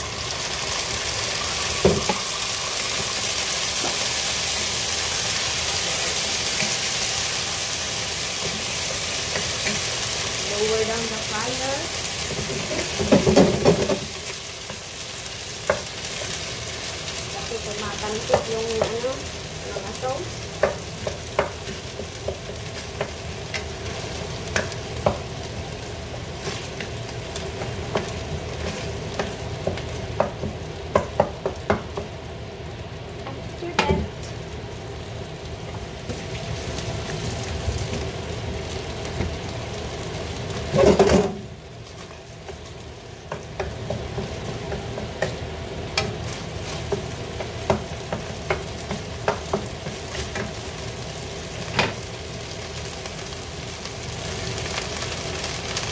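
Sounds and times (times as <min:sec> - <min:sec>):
fish sizzling in frying pan: 0:00.0 - 0:55.9.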